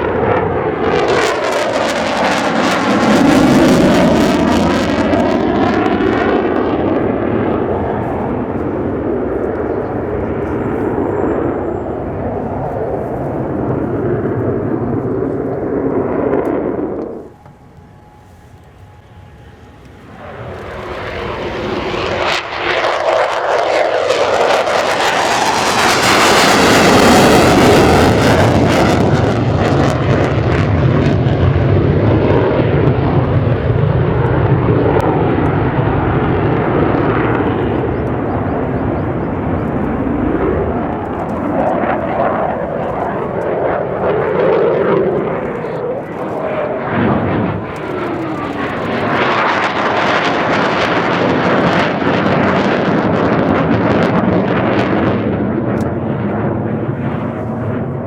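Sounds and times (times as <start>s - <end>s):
jet engine roar: 0.0s - 58.0s.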